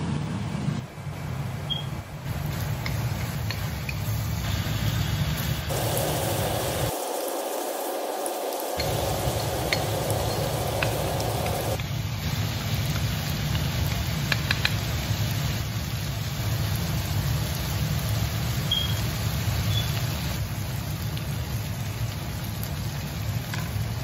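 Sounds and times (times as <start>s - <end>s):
meat sizzling in a wok: 2.3s - 24.0s.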